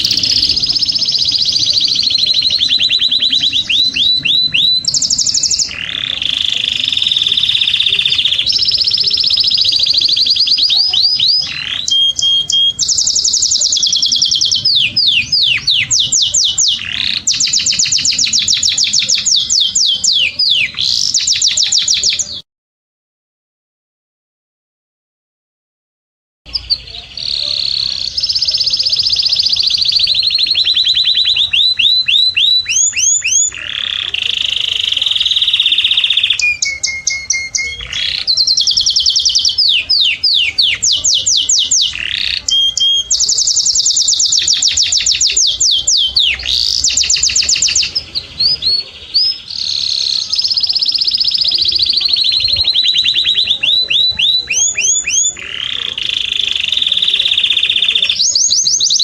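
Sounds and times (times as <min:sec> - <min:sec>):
canary singing trills: 0:00.0 - 0:22.4, 0:26.5 - 0:59.0.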